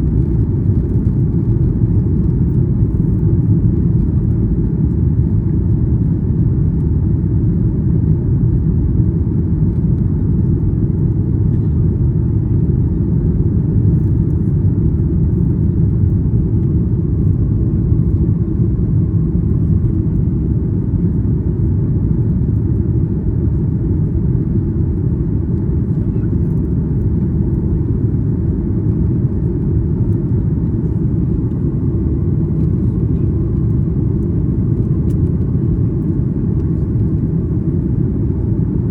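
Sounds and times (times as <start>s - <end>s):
airliner cabin engine hum: 0.0s - 38.9s.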